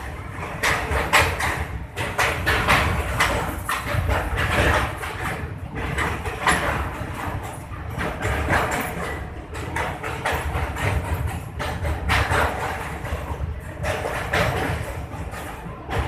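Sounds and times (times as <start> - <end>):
train wheels rumbling on rail: 0.0 - 16.0
wheels clacking: 0.0 - 16.0.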